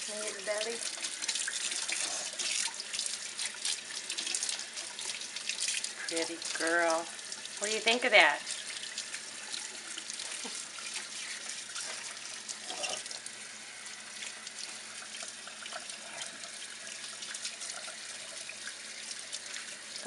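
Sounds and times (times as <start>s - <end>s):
faucet water splashing: 0.0s - 20.0s.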